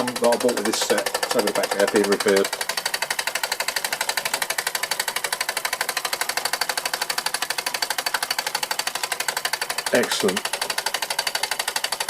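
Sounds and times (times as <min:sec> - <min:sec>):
toy steam engine clattering: 0:00.0 - 0:12.0.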